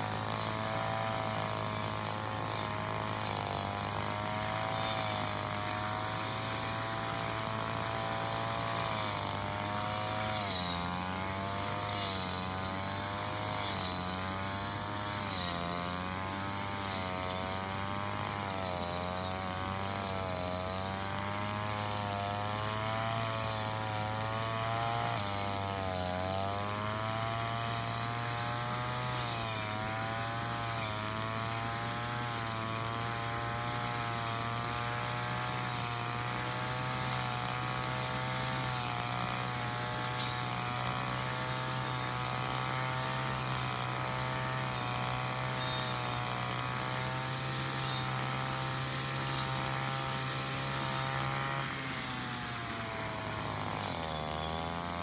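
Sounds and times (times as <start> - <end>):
brush cutter engine at high revs: 0.0 - 55.0.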